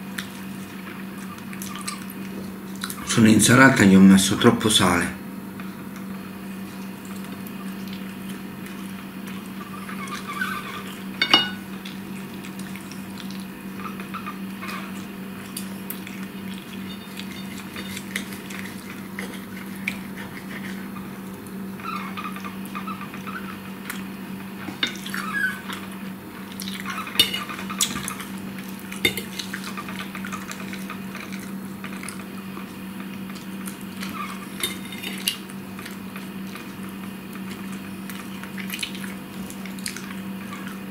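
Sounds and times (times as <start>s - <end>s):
chewing salad: 0.0s - 3.0s, 5.6s - 40.9s
steady low hum: 0.0s - 40.9s.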